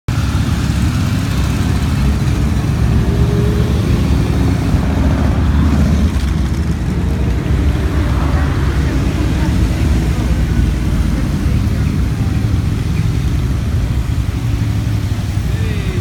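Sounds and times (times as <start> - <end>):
motorcycles riding past: 0.1 - 16.0.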